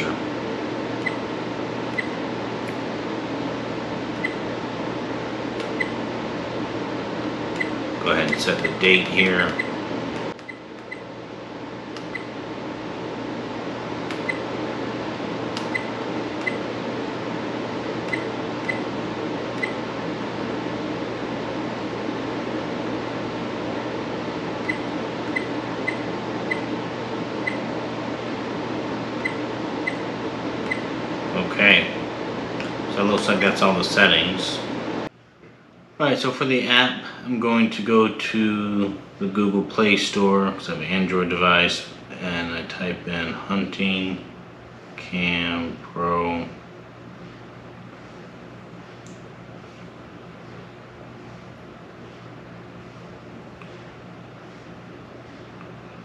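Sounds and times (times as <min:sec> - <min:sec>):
room hum: 0:00.0 - 0:56.0
ventilation hiss: 0:00.0 - 0:56.0.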